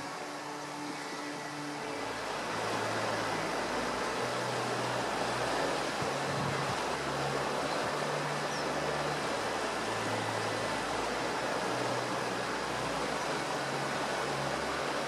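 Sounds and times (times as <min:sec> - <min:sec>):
river rushing in flood: 0:00.0 - 0:15.0.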